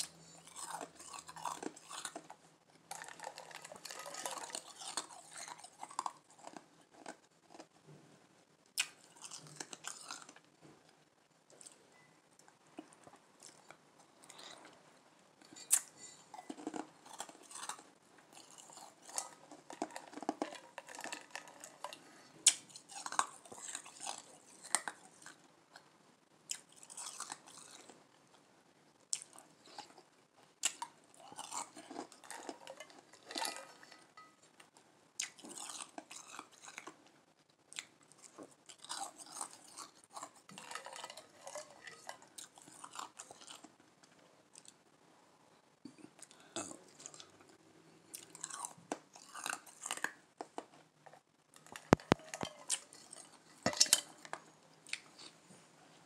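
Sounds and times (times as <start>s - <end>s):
ice crunching and chewing: 0.0s - 7.9s, 8.7s - 10.9s, 11.5s - 28.4s, 29.1s - 44.8s, 45.8s - 55.6s.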